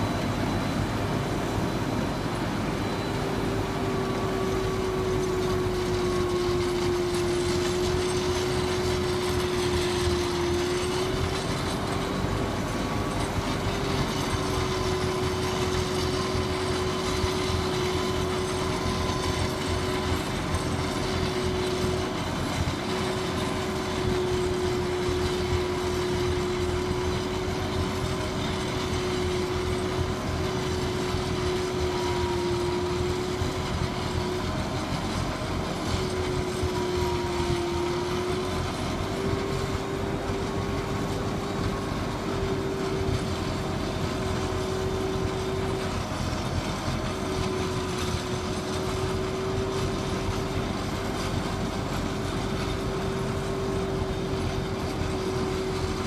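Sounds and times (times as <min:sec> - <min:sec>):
snow blower whine: 0:00.0 - 0:56.0
tractor engine: 0:00.0 - 0:56.0.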